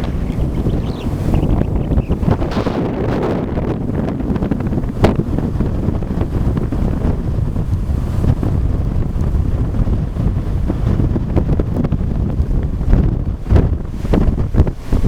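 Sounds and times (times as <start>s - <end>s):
ocean waves washing ashore: 0.0s - 15.0s
wind buffeting microphone: 0.0s - 15.0s.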